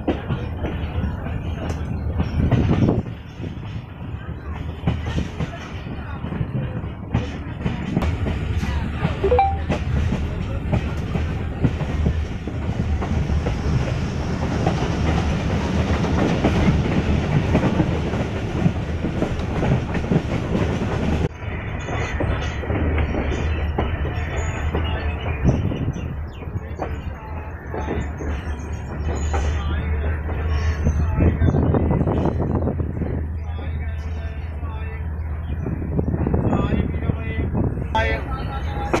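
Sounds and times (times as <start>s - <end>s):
train wheels rumbling: 0.0s - 39.0s.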